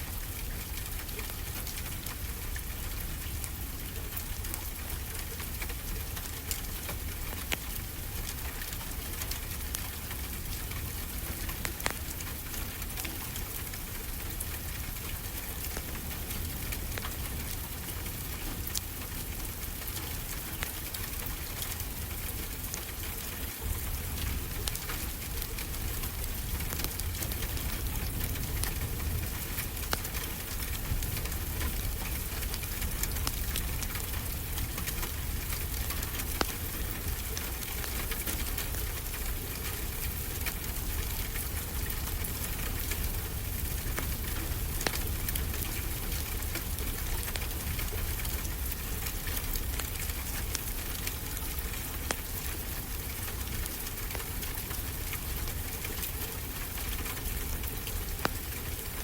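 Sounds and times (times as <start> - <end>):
steady rain: 0.0 - 59.0
wood fire crackling: 0.1 - 59.0.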